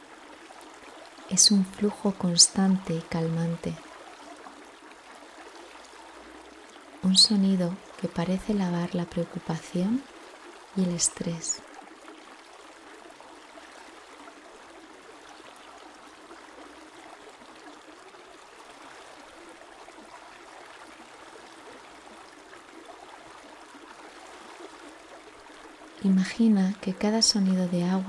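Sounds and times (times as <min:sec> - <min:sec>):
river water babbling over stones: 0:00.0 - 0:28.0.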